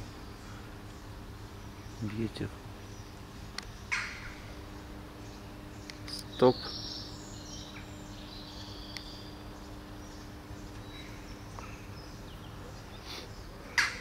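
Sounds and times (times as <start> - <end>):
faint bird chirps: 0.0 - 14.0
low street hum: 0.0 - 14.0.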